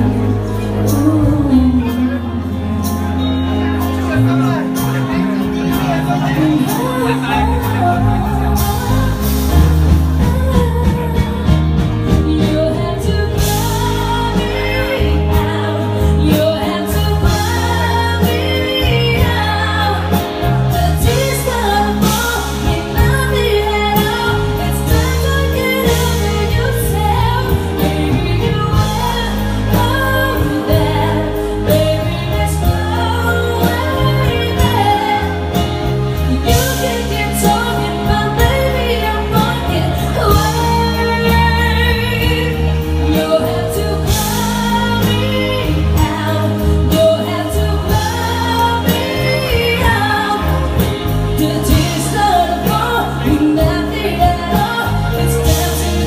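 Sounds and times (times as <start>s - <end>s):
live pop song with band: 0.0s - 56.0s.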